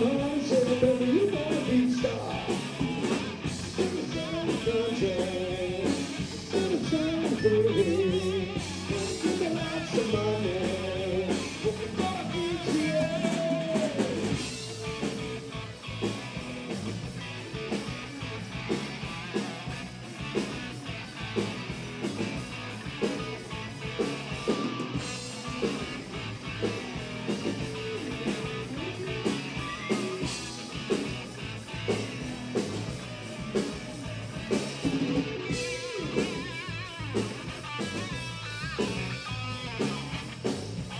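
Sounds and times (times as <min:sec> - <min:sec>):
drum kit beat: 0:00.0 - 0:40.9
electric guitar bending melody: 0:00.0 - 0:40.9.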